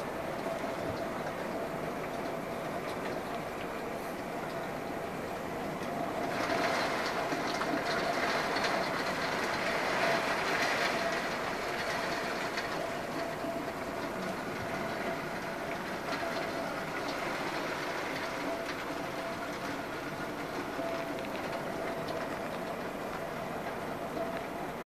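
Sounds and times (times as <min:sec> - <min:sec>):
heavy rain on a window: 0:00.0 - 0:24.8.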